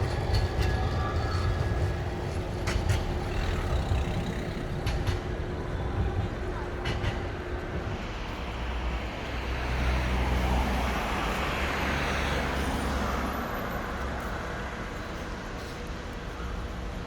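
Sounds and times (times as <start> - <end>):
heavy vehicle engine rumble: 0.0 - 17.0.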